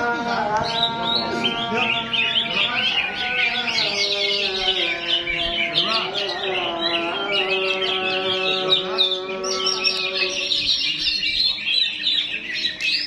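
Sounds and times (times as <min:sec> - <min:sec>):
songbird chirping and trilling: 0:00.0 - 0:13.0.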